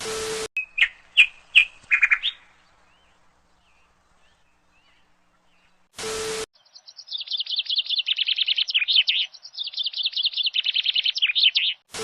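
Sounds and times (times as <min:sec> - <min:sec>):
small bird chirping song: 0:00.6 - 0:05.9, 0:06.6 - 0:11.9.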